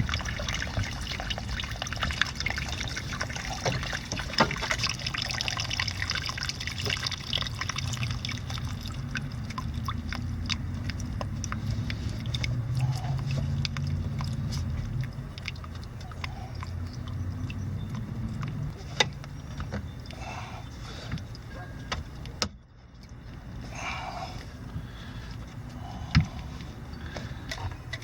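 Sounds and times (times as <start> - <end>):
steady low rumble: 0.0 - 28.0
water trickling and dripping: 0.0 - 28.0.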